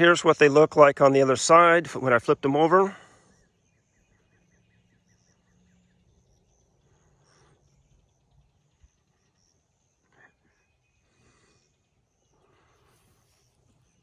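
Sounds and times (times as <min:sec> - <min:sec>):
insects chirping: 0:02.5 - 0:14.0.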